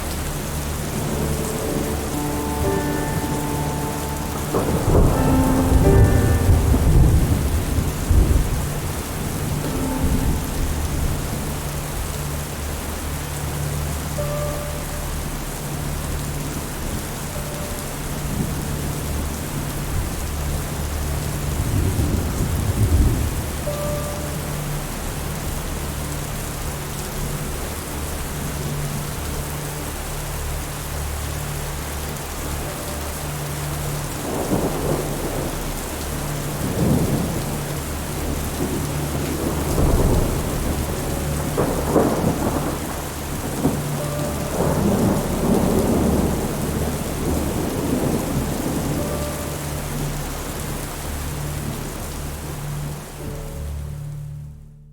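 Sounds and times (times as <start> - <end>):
thunder rumbling: 0.0 - 30.1, 31.3 - 54.2
steady rain falling: 0.0 - 54.9.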